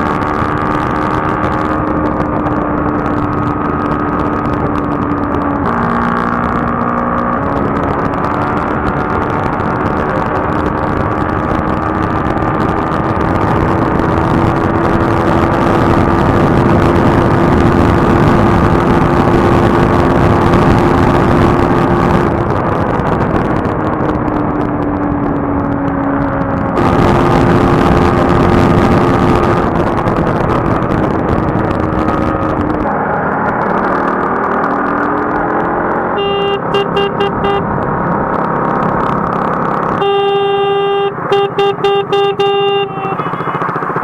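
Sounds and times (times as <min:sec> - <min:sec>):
motorcycle engine: 0:00.0 - 0:44.0
road noise: 0:00.0 - 0:44.0
wind rushing on microphone: 0:00.0 - 0:44.0.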